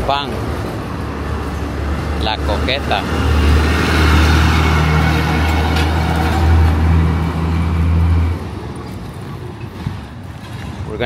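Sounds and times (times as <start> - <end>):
bus engine droning: 0.0 - 11.0
street traffic noise: 0.0 - 11.0.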